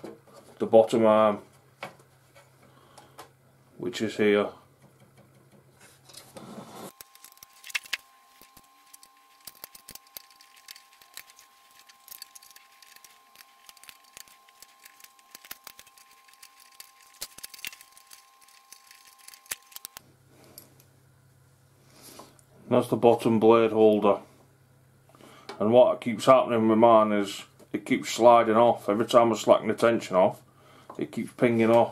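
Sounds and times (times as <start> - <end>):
faint steady whine: 5.8 - 31.9.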